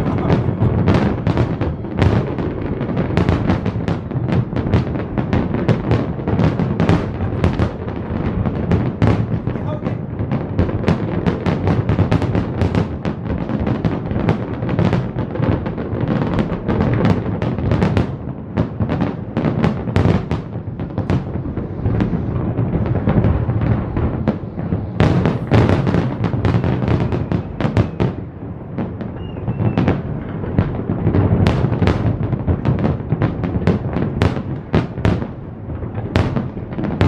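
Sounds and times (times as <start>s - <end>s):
fireworks booming and cracking: 0.0s - 37.0s.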